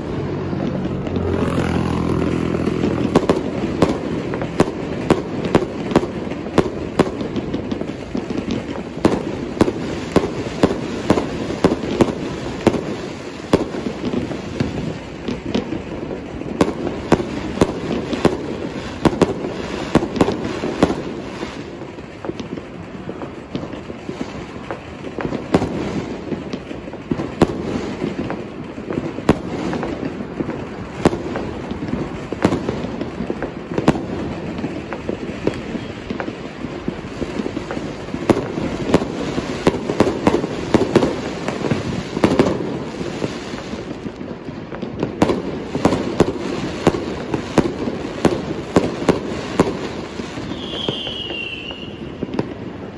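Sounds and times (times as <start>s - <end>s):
fireworks banging: 0.0s - 52.9s
fireworks crackling: 0.0s - 52.9s.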